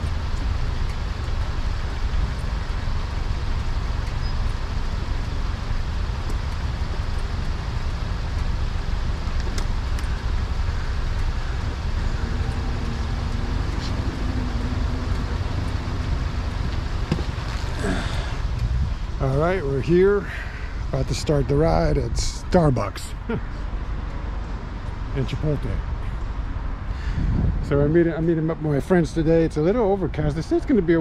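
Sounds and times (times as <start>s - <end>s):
wind rumble: 0.0s - 30.9s
road noise: 0.0s - 31.0s.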